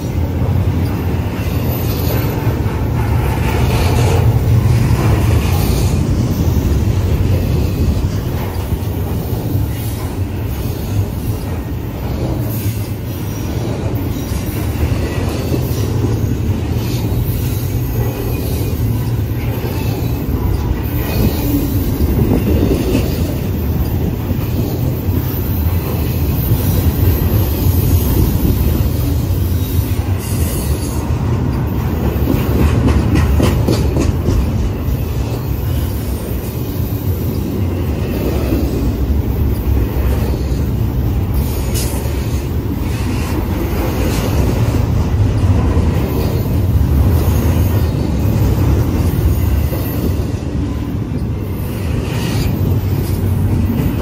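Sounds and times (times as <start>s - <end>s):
sharp clicks from train wheels: 0.0s - 54.0s
train wheels rumbling on rail: 0.0s - 54.0s.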